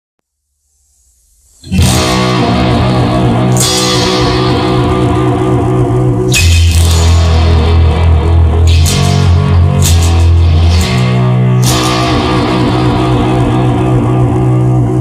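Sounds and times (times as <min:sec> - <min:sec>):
instrumental rock music: 0:01.6 - 0:15.0.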